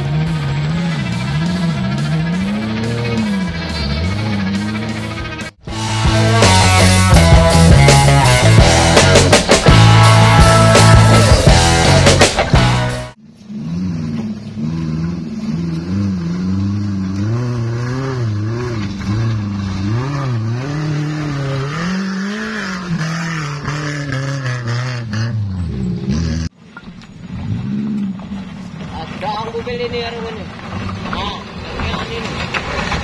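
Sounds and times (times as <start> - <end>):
pickup engine labouring: 0.0 - 33.0.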